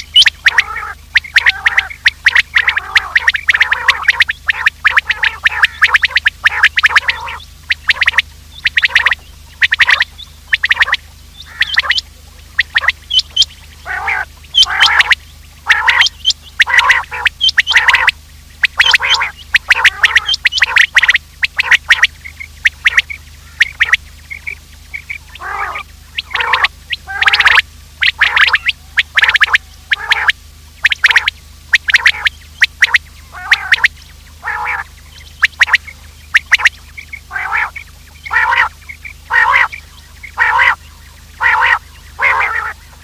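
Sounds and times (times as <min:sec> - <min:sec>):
recorded quail calls: 0:00.0 - 0:43.0.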